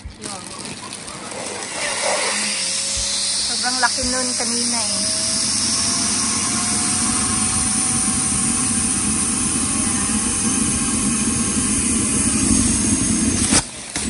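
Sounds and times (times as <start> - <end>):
faint rising whine: 0.0 - 13.5
vacuum cleaner running: 0.0 - 14.0.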